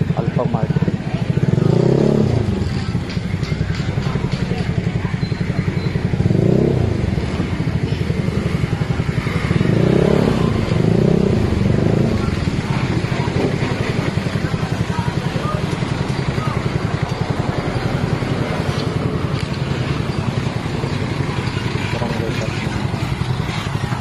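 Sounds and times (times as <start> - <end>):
scooter engine throbbing: 0.0 - 24.0.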